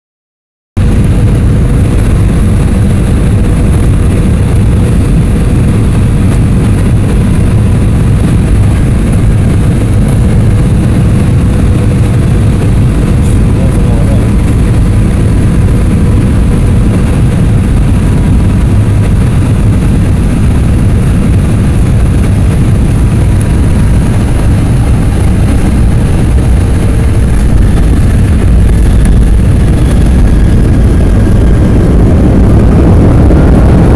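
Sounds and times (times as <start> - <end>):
airplane cabin rumble: 0.8 - 33.9
faint steady whine: 0.8 - 33.9.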